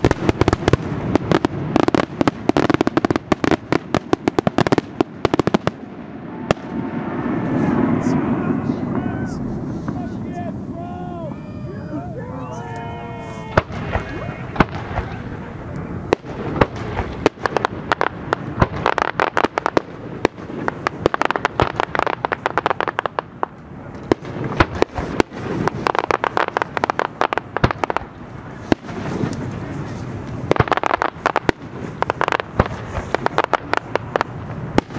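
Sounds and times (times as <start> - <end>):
fireworks crackling pops: 0.0 - 11.2, 12.6 - 34.9
fireworks bangs: 0.0 - 34.9.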